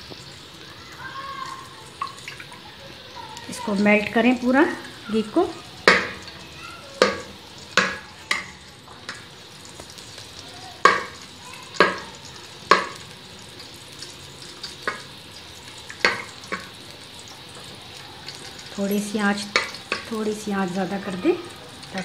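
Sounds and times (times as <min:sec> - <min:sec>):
ghee sizzling: 0:00.0 - 0:22.0.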